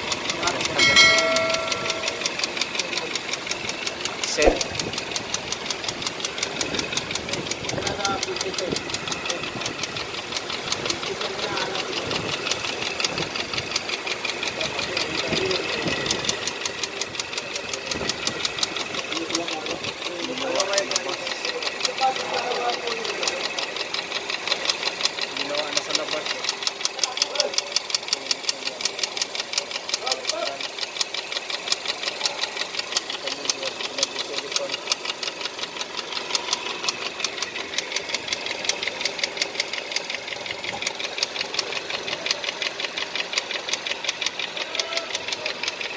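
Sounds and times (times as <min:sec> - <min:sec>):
car engine knocking: 0:00.0 - 0:45.9.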